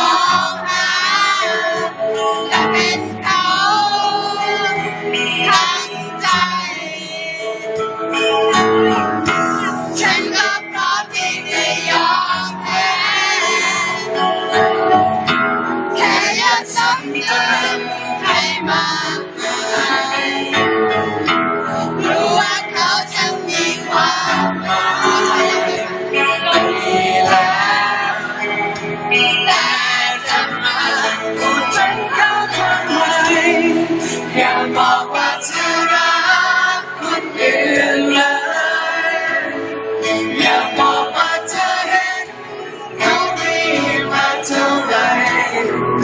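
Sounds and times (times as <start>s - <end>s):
live pop music with vocals: 0.0s - 46.0s.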